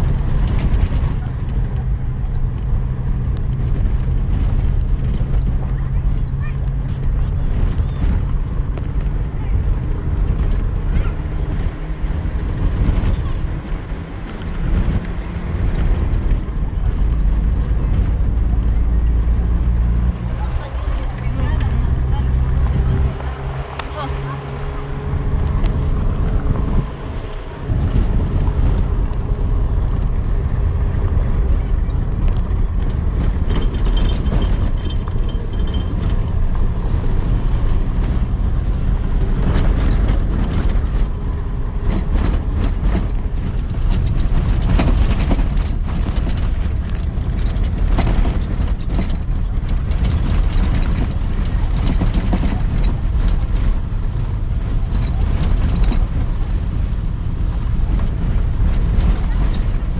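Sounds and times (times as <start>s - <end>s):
small rattles and knocks: 0.0s - 59.9s
vehicle driving rumble: 0.0s - 59.9s.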